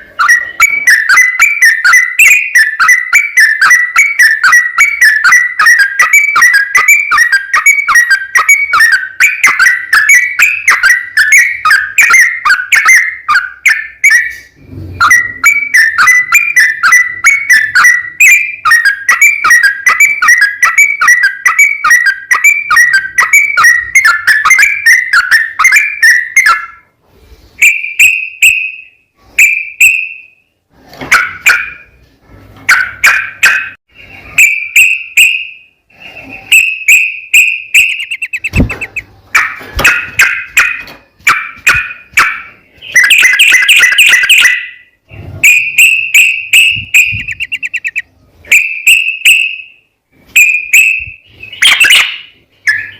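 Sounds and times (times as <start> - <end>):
bird singing whistled notes: 0.0 - 26.8, 27.6 - 30.4, 33.1 - 39.1, 41.7 - 52.9.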